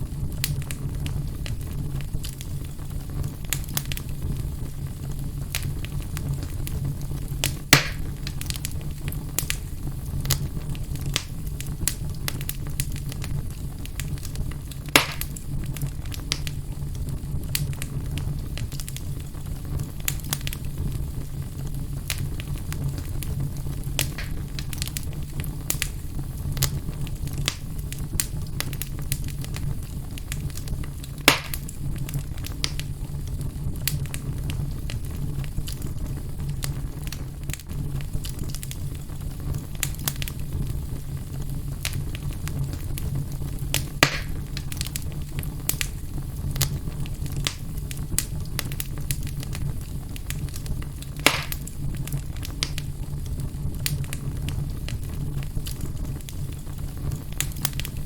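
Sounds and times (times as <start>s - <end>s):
fire crackling in fireplace: 0.0s - 58.0s
loud fire pops: 0.0s - 58.0s.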